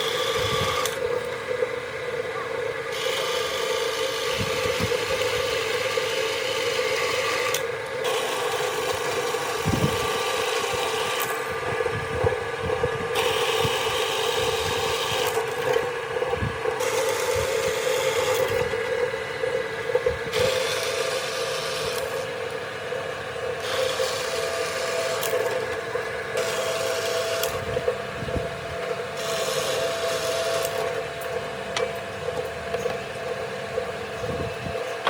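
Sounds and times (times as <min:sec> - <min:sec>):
drill press motor humming: 0:00.0 - 0:35.0.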